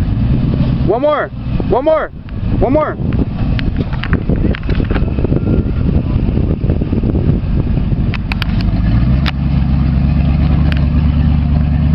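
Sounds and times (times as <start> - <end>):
pickup truck engine rumbling: 0.0 - 11.9.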